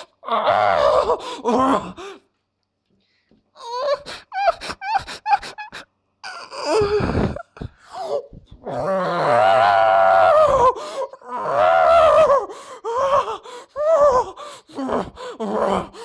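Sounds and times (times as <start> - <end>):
person moaning: 0.0 - 2.2, 3.7 - 16.0.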